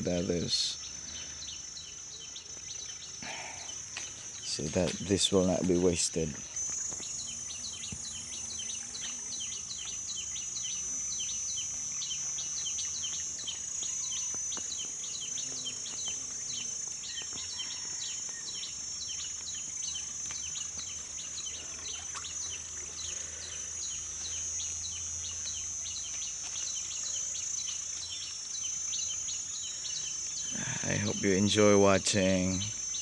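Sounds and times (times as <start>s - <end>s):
high-pitched insect drone: 0.0s - 33.0s
short insect chirps: 0.0s - 33.0s.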